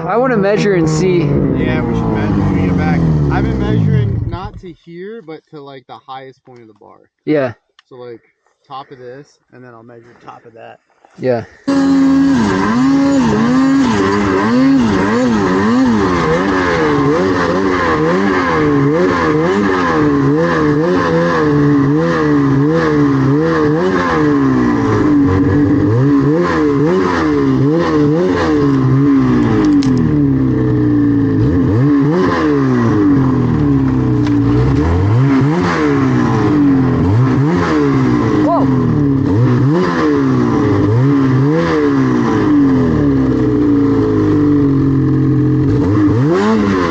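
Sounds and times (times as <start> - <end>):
snowmobile engine revving: 0.0 - 6.3, 11.6 - 46.9.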